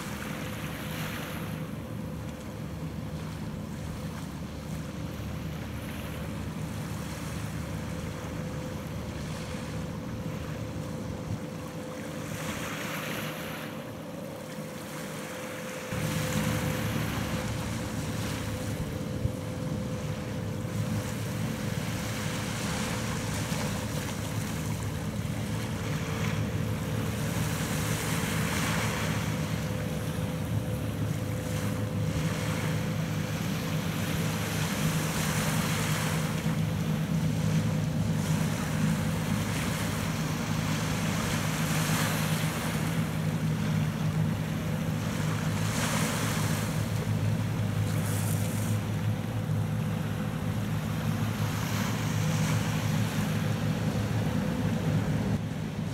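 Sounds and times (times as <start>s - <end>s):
boat engine drone: 0.0s - 55.9s
bow wave splashing: 0.0s - 55.9s.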